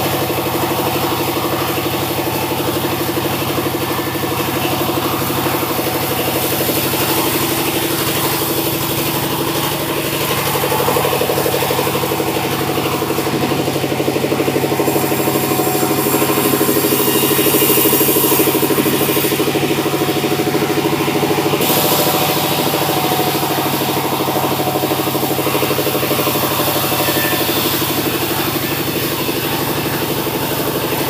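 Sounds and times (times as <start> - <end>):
sawmill engine pulsing hum: 0.0 - 31.0.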